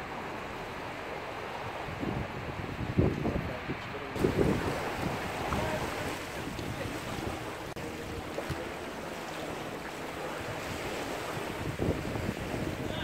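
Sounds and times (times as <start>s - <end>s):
small waves washing: 0.0s - 13.0s
wind buffeting microphone: 0.0s - 13.0s.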